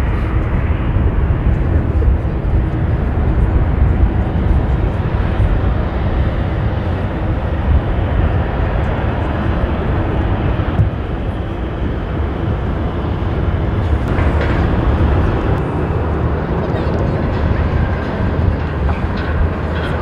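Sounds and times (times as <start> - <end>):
jet engines roaring: 0.0 - 20.0
wind on microphone: 0.0 - 20.0.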